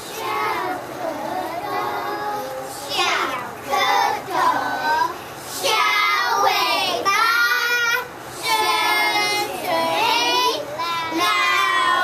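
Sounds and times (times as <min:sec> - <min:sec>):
children singing in unison: 0:00.0 - 0:12.0.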